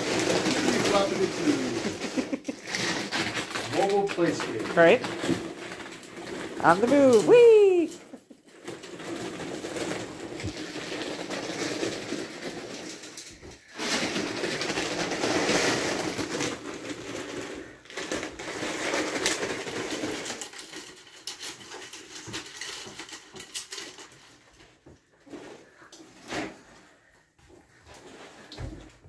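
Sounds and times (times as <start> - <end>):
plastic tubing crinkling and rustling: 0.0 - 29.0.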